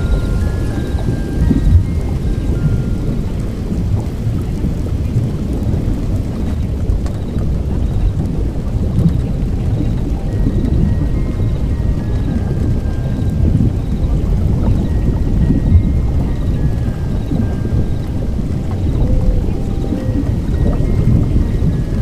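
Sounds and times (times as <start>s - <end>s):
rain: 0.0s - 22.0s
thunder rumbling: 0.0s - 22.0s.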